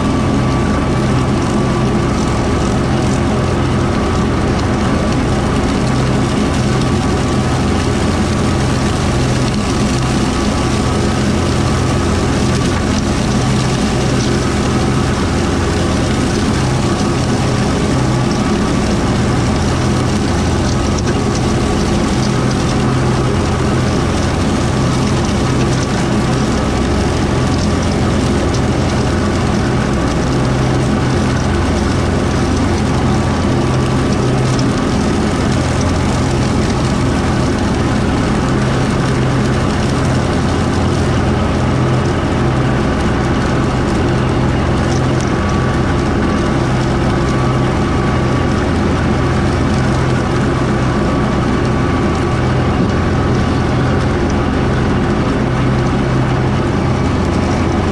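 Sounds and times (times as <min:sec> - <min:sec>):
rotary mower: 0:00.0 - 0:57.9
tractor engine running steadily: 0:00.0 - 0:57.9.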